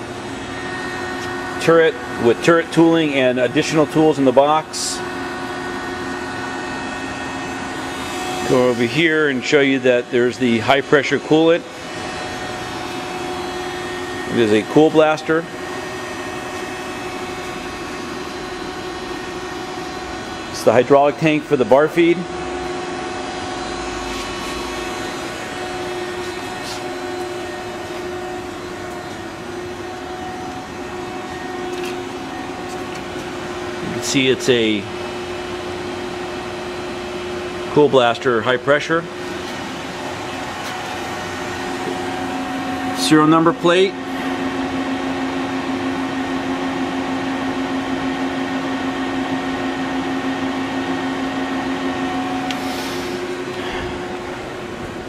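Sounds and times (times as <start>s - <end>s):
machinery humming and whirring: 0.0s - 55.0s.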